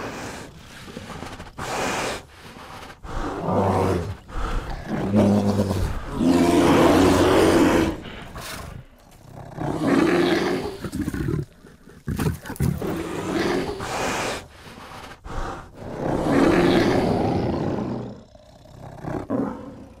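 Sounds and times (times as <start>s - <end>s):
bear roaring: 0.0s - 20.0s.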